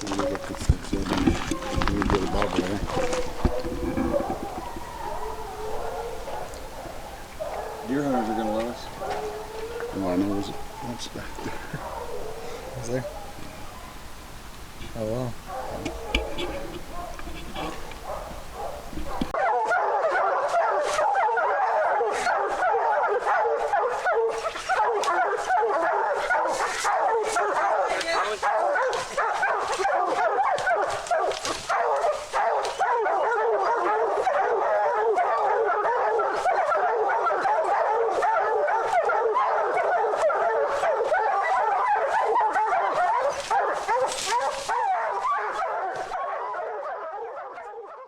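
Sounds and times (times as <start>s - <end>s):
hounds barking and baying: 0.0s - 48.0s.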